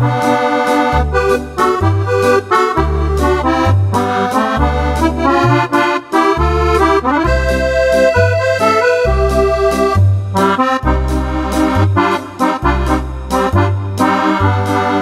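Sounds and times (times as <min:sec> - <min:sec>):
accordion playing a tune: 0:00.0 - 0:15.0.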